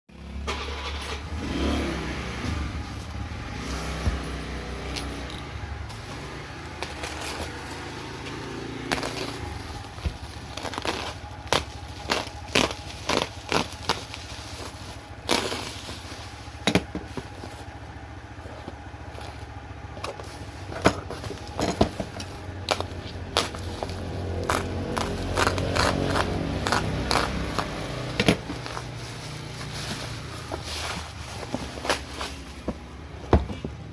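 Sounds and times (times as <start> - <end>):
packaging clicks and crinkles: 4.9 - 32.9.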